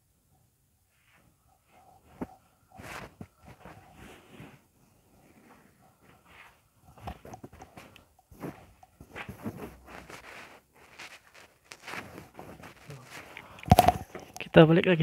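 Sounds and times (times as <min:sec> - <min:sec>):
faint footsteps and scuffs: 0:01.0 - 0:14.2.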